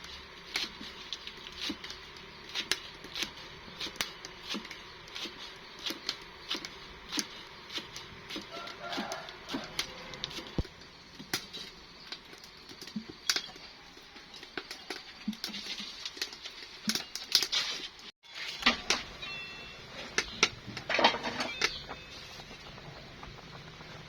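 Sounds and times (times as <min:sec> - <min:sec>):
scraping and rustling: 0:00.0 - 0:24.0.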